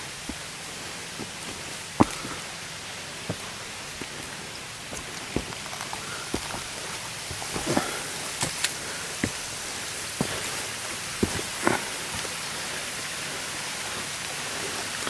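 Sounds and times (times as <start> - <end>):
footsteps on rocks: 0.0 - 13.4
waterfall rushing: 0.0 - 15.0.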